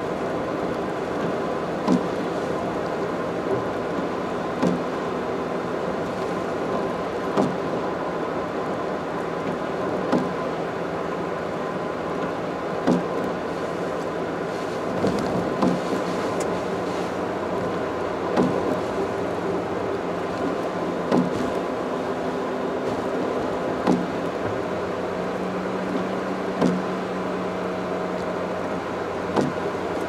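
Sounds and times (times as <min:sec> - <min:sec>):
car road and tyre noise: 0:00.0 - 0:30.0.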